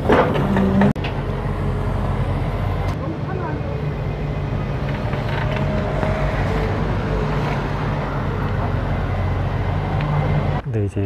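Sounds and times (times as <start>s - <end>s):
excavator diesel engine under load: 0.0s - 10.6s.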